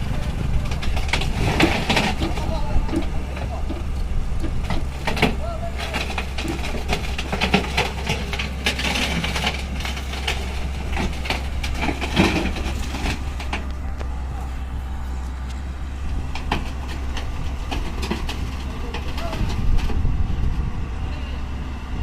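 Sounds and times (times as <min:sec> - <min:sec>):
metal knocks and clanks: 0:00.0 - 0:14.1, 0:16.0 - 0:20.1
heavy diesel engine running: 0:00.0 - 0:22.0.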